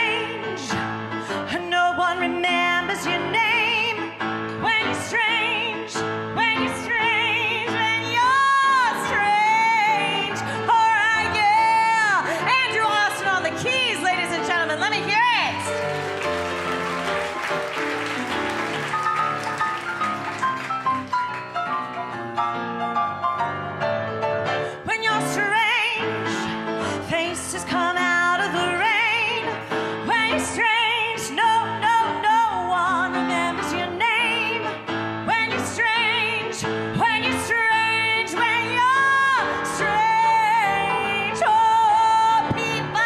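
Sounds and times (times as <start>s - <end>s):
grand piano: 0.0s - 43.0s.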